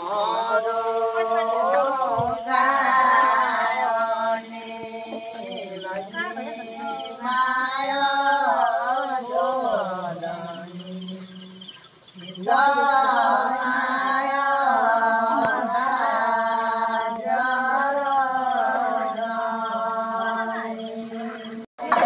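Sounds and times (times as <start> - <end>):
women singing slow song: 0.0 - 22.0.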